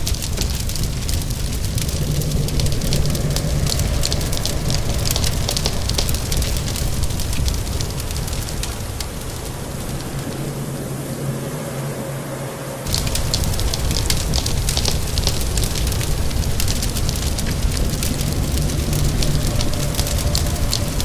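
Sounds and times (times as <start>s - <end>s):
wood fire crackling and popping: 0.0s - 10.8s, 12.8s - 21.0s
low rumble: 0.0s - 21.0s
steady rain: 0.0s - 21.0s.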